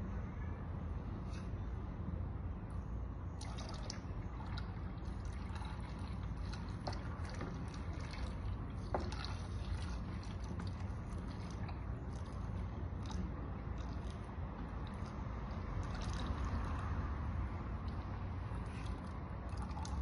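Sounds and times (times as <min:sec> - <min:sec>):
liquid trickling into oil: 0:03.3 - 0:20.0.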